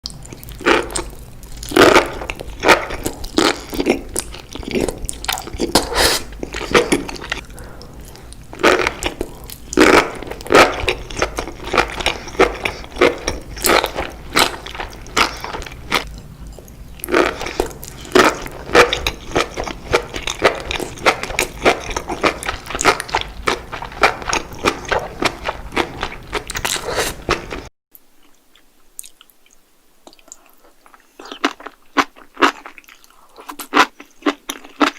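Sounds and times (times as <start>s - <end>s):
crunchy wet chewing: 0.0s - 34.9s.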